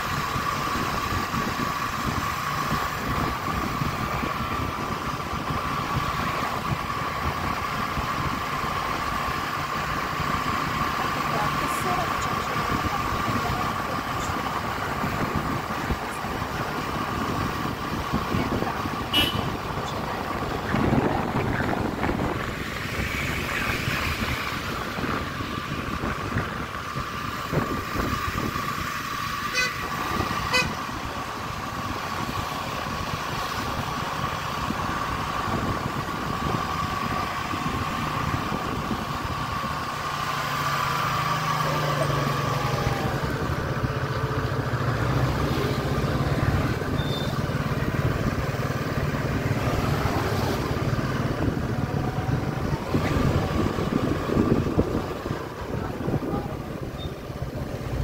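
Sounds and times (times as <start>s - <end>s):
wind noise: 0.0s - 10.8s, 12.3s - 40.0s, 46.0s - 58.0s
road noise: 0.0s - 58.0s.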